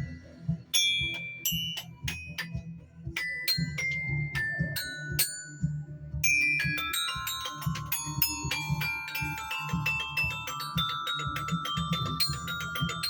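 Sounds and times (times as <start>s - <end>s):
mallet percussion played fast: 0.7s - 13.0s.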